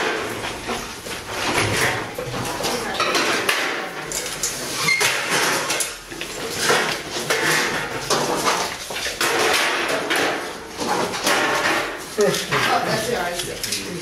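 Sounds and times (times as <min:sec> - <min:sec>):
metal folding chairs clattering: 0:00.0 - 0:14.0.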